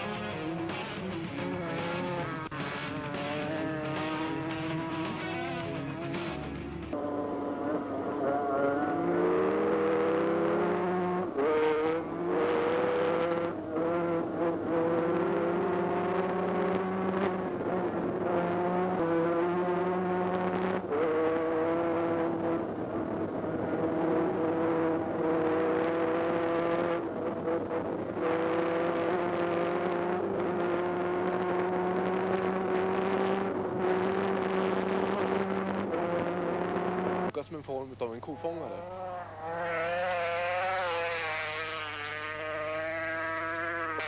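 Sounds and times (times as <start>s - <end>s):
motorcycle engine at high revs: 0.0s - 37.3s, 38.4s - 44.0s.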